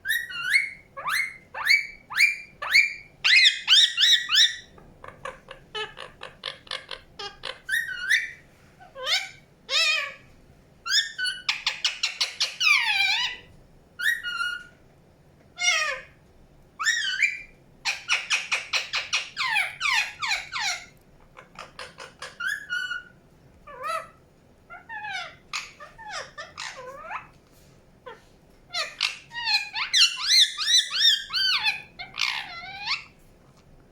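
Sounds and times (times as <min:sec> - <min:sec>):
parakeet chirping and calling: 0:00.0 - 0:10.2, 0:10.9 - 0:14.8, 0:16.8 - 0:27.4, 0:28.0 - 0:33.2.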